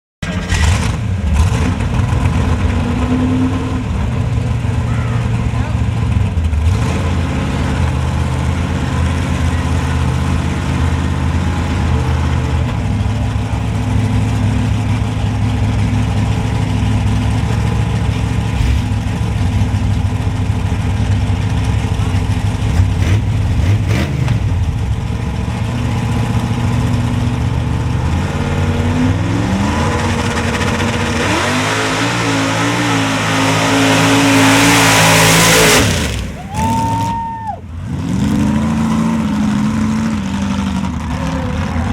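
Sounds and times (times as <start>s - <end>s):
truck engine running and revving: 0.2s - 41.9s.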